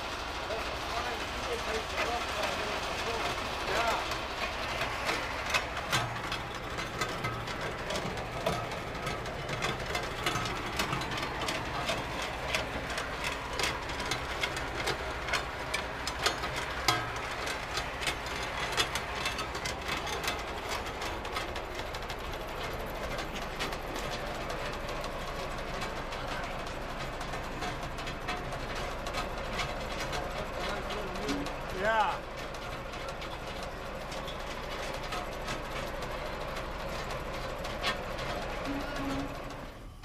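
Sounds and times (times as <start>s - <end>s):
mill machinery rumble: 0.0s - 40.0s.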